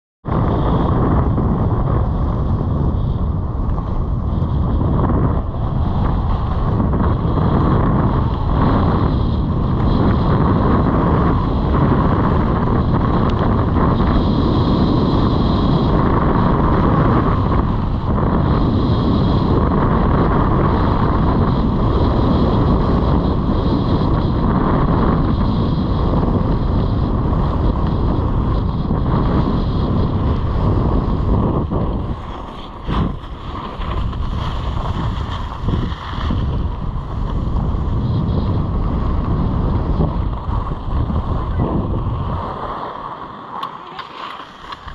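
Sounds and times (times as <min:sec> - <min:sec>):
wind rushing over microphone: 0:00.2 - 0:44.9
skis scraping over snow: 0:00.4 - 0:44.9.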